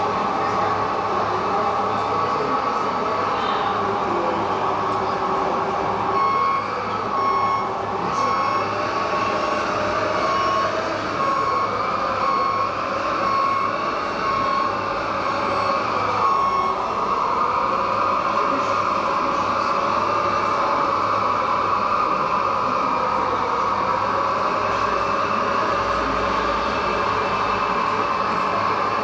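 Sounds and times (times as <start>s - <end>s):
reversing beeper: 1.4s - 29.0s.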